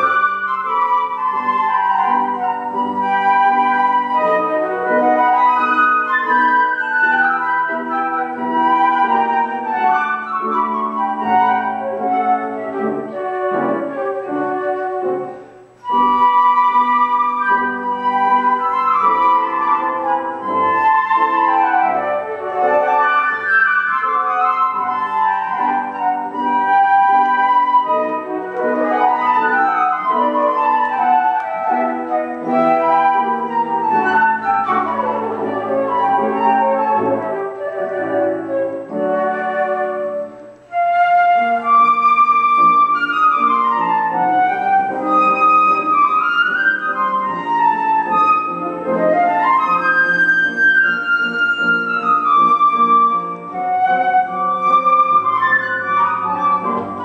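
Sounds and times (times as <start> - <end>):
flutes playing: 0.0 - 57.0
piano accompaniment: 0.0 - 57.0.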